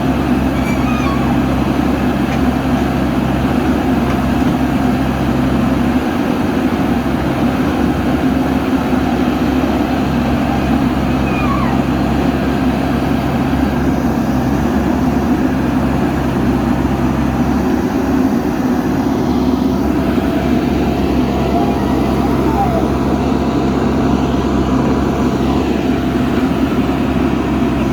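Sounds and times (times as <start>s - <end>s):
diesel engine running steadily: 0.0s - 27.9s.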